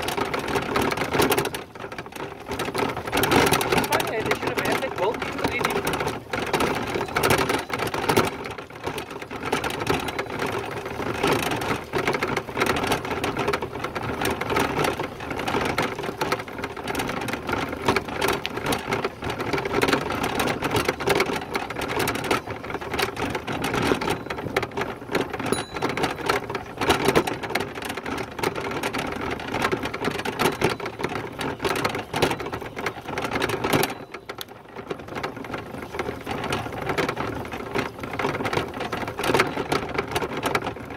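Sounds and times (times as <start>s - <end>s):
bicycle rattling and clicking: 0.0s - 40.9s.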